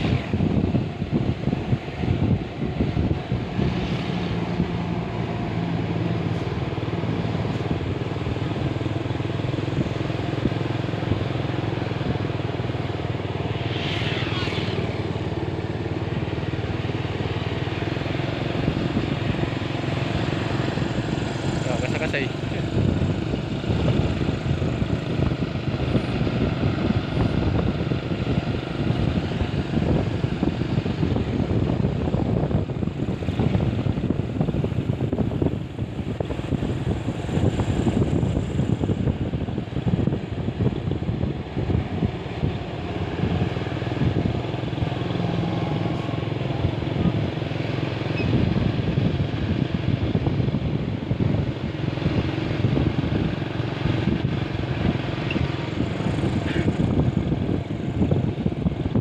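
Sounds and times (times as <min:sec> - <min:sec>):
diesel truck engine running: 0:00.0 - 0:13.9, 0:14.5 - 0:59.0.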